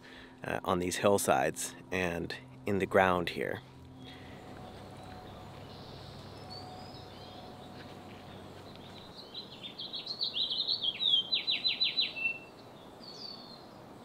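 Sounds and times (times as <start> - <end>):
faint outdoor hiss: 0.0 - 14.0
songbird singing: 2.5 - 14.0.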